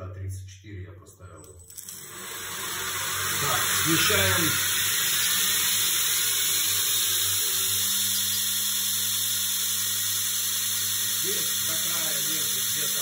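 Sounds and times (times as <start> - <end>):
belt grinder grinding hiss: 1.7 - 13.0
motor hum: 1.7 - 13.0.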